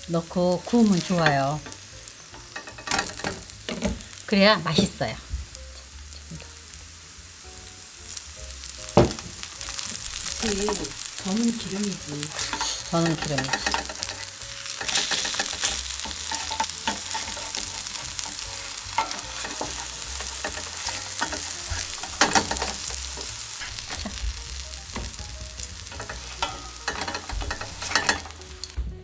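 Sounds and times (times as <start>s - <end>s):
pancakes sizzling in oil: 0.0s - 28.8s.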